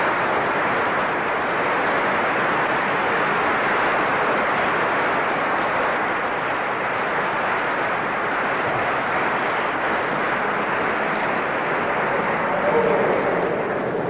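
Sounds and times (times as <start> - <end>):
crowd noise in church: 0.0 - 14.0.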